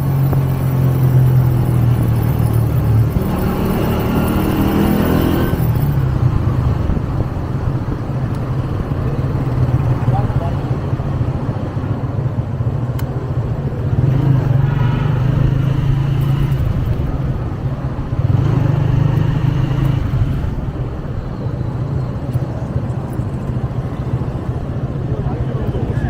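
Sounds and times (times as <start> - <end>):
motorcycle engine running: 0.0 - 21.4
wind and road noise: 0.0 - 26.0.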